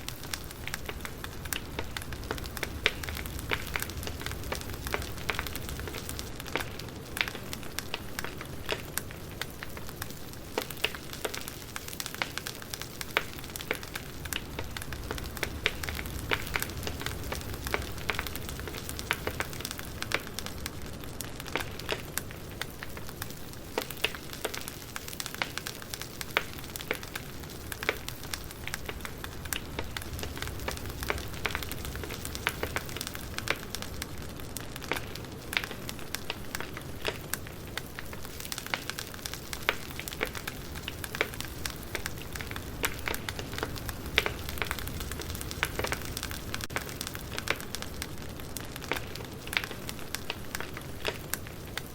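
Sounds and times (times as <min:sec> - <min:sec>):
campfire crackling and popping: 0:00.0 - 0:51.9
hiss of flames: 0:00.0 - 0:51.9.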